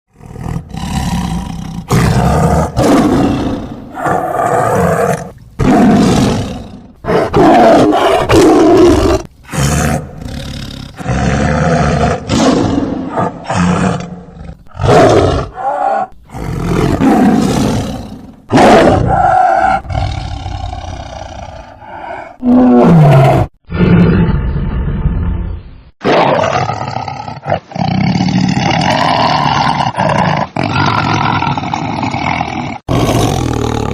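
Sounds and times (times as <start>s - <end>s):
tiger roaring: 0.1s - 25.4s, 26.0s - 33.9s.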